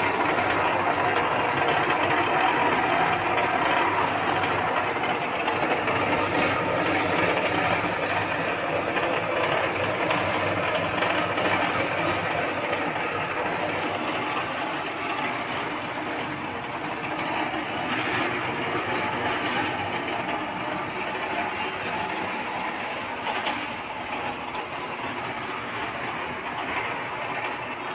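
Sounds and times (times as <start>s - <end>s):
concrete mixer drum rumbling: 0.0s - 27.9s.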